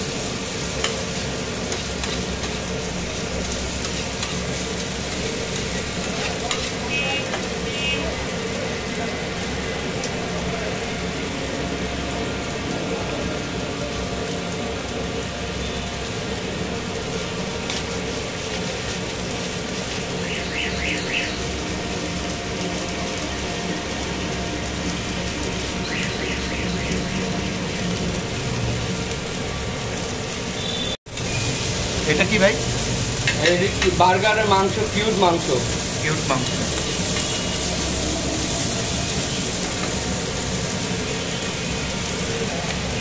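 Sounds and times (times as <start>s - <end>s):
chicken sizzling on a griddle: 0.0s - 43.0s.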